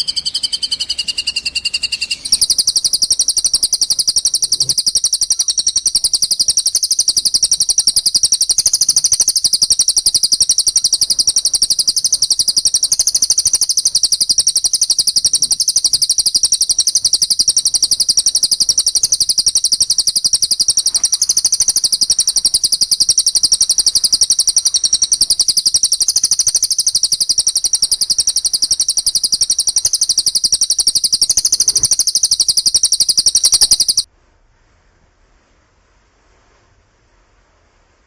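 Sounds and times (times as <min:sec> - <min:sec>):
bird chattering call: 0:00.0 - 0:34.1.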